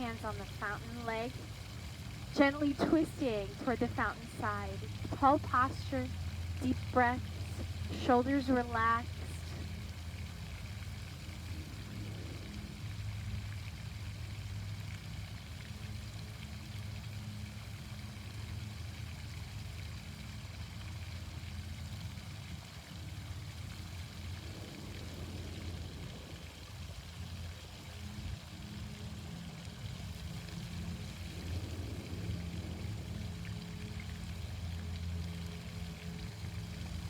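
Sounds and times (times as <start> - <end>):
fountain water splashing: 0.0 - 37.0
low steady hum: 0.0 - 37.0.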